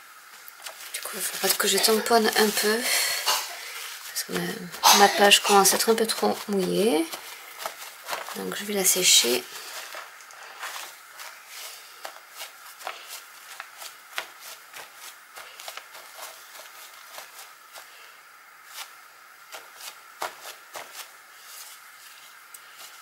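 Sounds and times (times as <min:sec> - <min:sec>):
paper towel dabbing on paper: 0:00.5 - 0:23.0.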